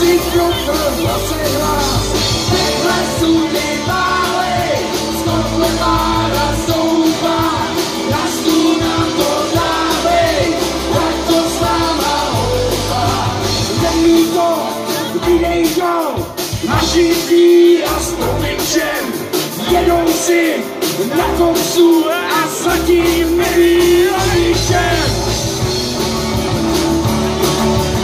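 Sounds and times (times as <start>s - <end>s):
person singing: 0.0s - 25.3s
bass guitar: 0.0s - 28.0s
drum kit with cymbals: 0.0s - 28.0s
electric guitars: 0.0s - 28.0s.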